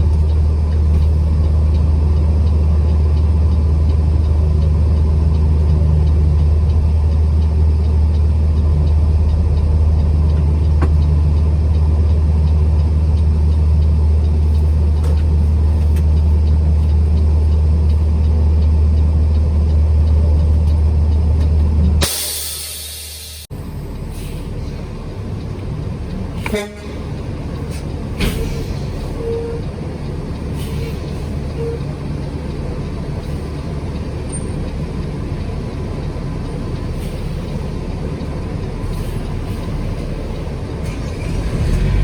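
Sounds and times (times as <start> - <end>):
road noise: 0.0 - 42.0
truck engine drone: 0.0 - 42.0.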